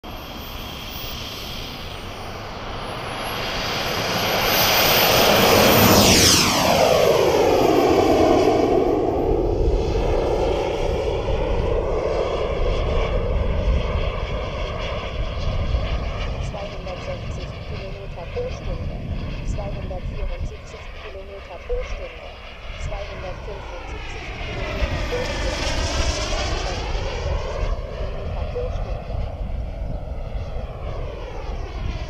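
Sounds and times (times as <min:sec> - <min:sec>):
model jet turbine whine: 0:00.0 - 0:32.0.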